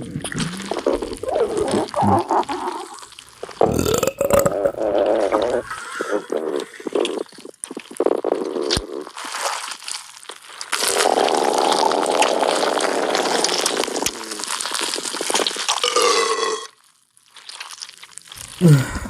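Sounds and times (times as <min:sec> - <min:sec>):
wet mouth and throat sounds: 0:00.0 - 0:16.7, 0:17.3 - 0:19.0.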